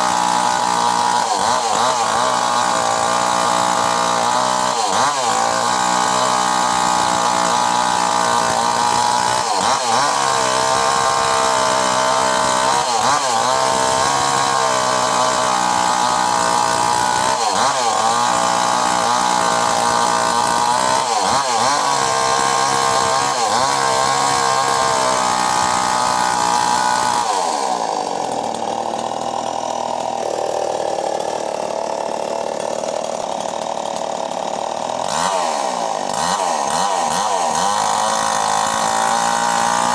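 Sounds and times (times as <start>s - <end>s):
mini chainsaw running: 0.0s - 39.9s.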